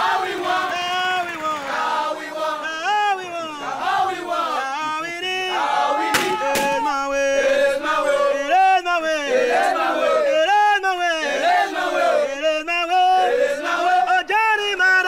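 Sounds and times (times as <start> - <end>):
men chanting and shouting: 0.0 - 15.0.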